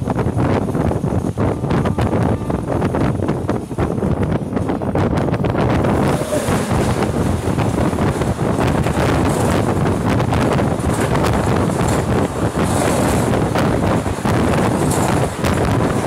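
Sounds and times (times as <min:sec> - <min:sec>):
train wheels clattering on rails: 0:00.0 - 0:16.0
wind buffeting microphone: 0:00.0 - 0:16.0.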